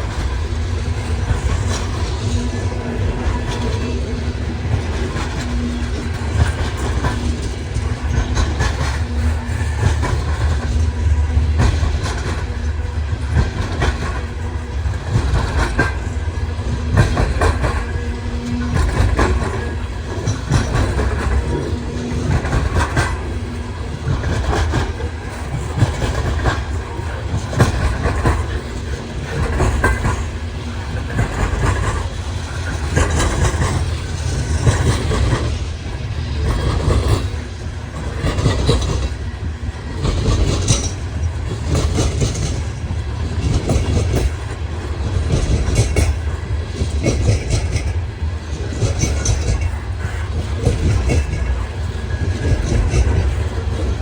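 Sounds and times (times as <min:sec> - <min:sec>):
wheels clicking over rail joints: 0:00.0 - 0:54.0.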